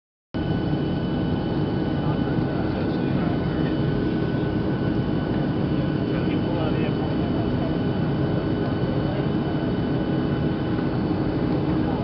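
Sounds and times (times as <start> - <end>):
airplane cabin engine roar: 0.4 - 12.0.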